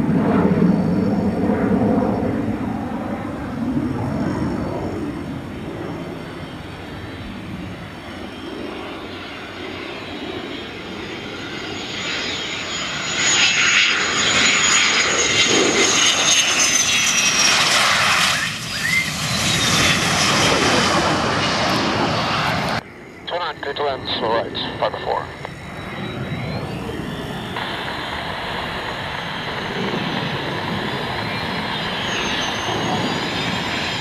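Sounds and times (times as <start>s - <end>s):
jet engine high whine: 0.0s - 34.0s
jet engine rumble: 0.0s - 34.0s.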